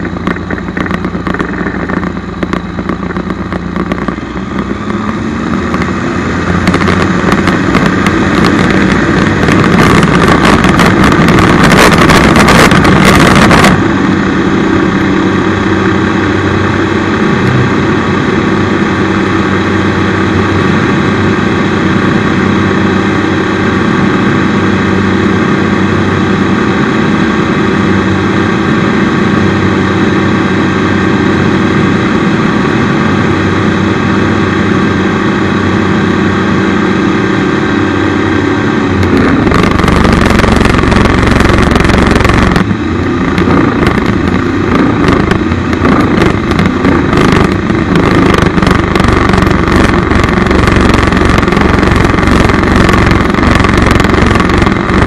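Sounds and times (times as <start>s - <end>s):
aircraft engine running: 0.0s - 55.0s
rough rushing with rumble and crackle: 0.0s - 55.0s.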